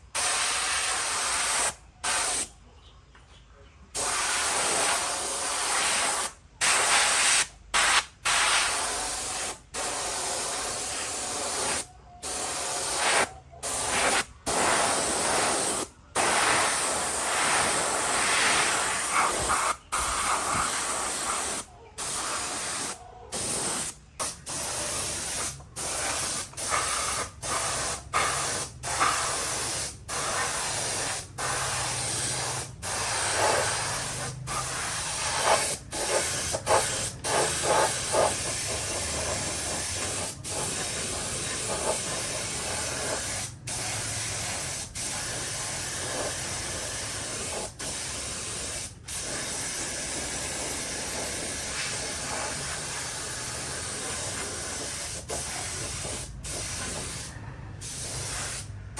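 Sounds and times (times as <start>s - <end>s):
compressed-air spray gun hissing: 0.2s - 2.4s, 4.0s - 58.8s.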